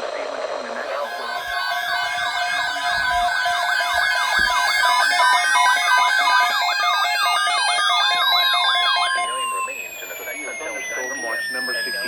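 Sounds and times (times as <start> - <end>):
interrupted steady beeps: 0.1 - 12.0
warbling electronic tones: 0.6 - 12.0
tone gliding upward: 0.8 - 12.0.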